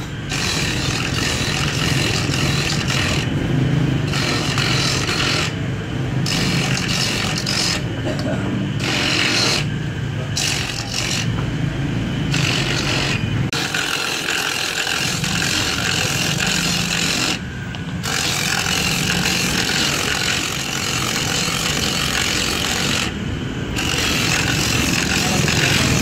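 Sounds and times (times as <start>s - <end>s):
coconut grater grinding: 0.0s - 11.4s, 12.2s - 26.0s.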